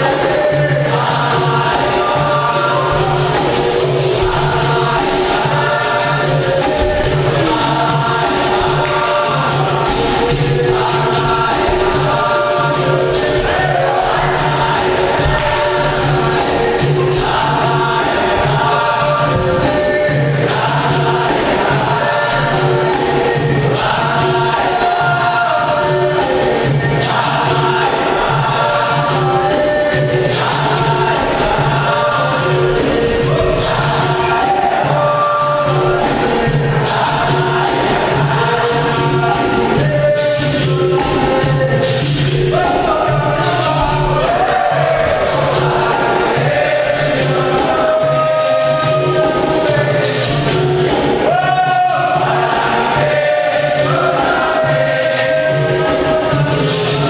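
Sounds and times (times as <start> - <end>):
group singing in chorus: 0.0 - 57.0
hand drum beat: 0.0 - 57.0.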